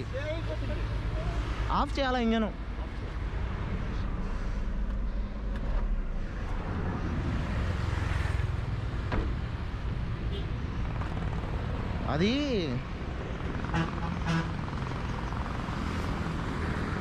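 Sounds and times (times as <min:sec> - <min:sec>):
diesel engine rumble: 0:00.0 - 0:17.0.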